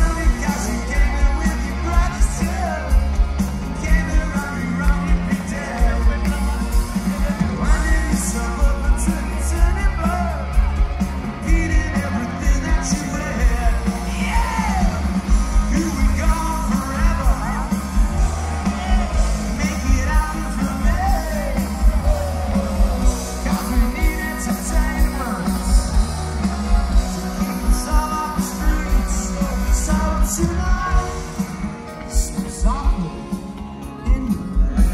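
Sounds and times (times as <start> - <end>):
crowd yelling: 0.0 - 34.9
drums: 0.0 - 34.9
heavy bass: 0.0 - 34.9
person singing: 0.0 - 34.9
rock band playing live: 0.0 - 34.9.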